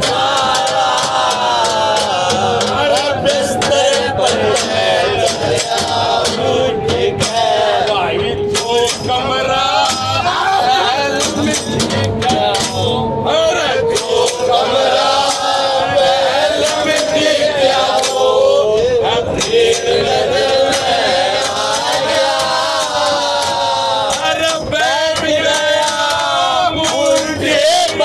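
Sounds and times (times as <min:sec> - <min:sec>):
men singing: 0:00.0 - 0:28.0.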